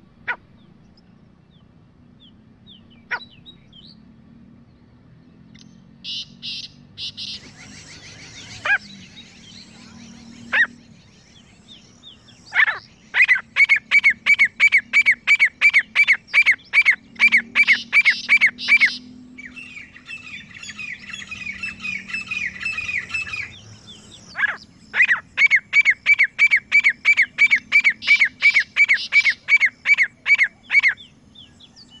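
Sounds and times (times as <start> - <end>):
francolins calling: 0.0 - 4.0, 5.6 - 32.0.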